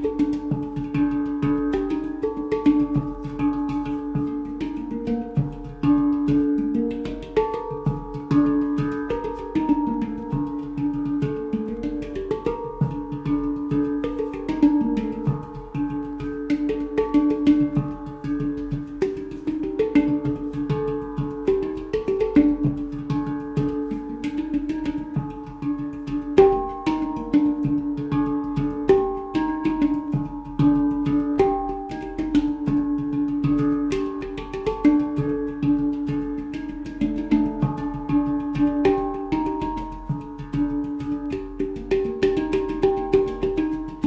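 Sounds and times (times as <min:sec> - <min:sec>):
handpan played by hand: 0:00.0 - 0:44.0.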